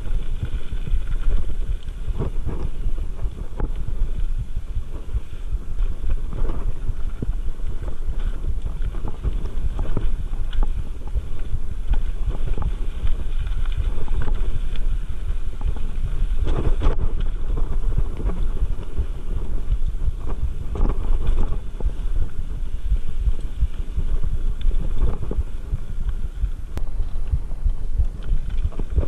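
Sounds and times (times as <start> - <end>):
bike rattling over gravel: 0.0 - 29.0
wind buffeting microphone: 0.0 - 29.0.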